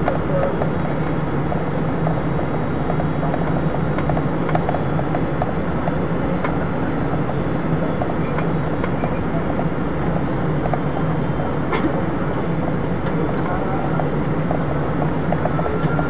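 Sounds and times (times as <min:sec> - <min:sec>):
jet cabin engine drone: 0:00.0 - 0:16.0.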